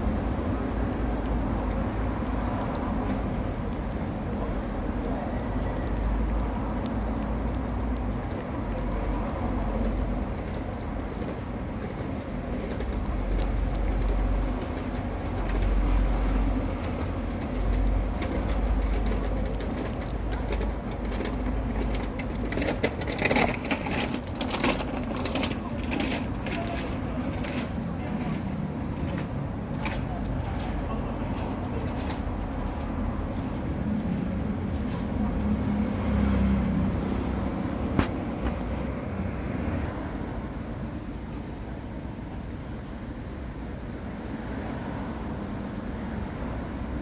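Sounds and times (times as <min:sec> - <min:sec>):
low street rumble: 0:00.0 - 0:47.0.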